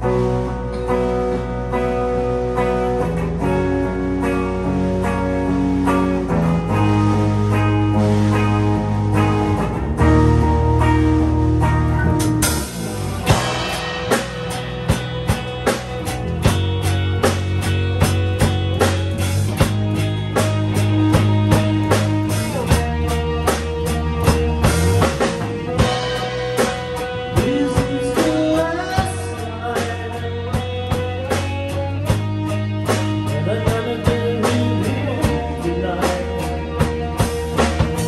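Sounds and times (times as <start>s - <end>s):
deep bass line: 0.0s - 38.0s
drum kit beat: 0.0s - 38.0s
electric guitar lead melody: 0.0s - 38.0s
rhythm guitar: 0.0s - 38.0s.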